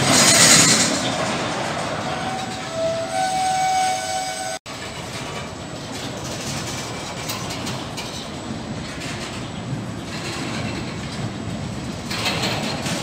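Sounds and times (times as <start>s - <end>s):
freight train rumble and wheel clatter: 0.0s - 13.0s.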